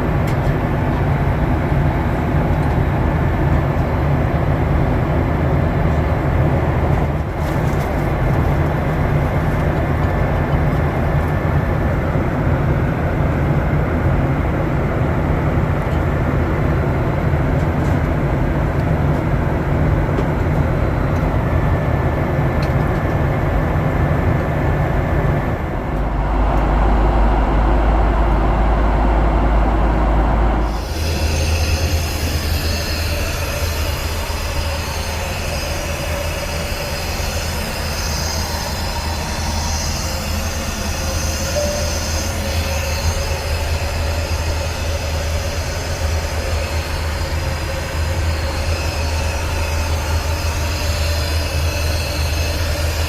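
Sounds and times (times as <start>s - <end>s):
jet airliner cabin noise: 0.0s - 53.0s.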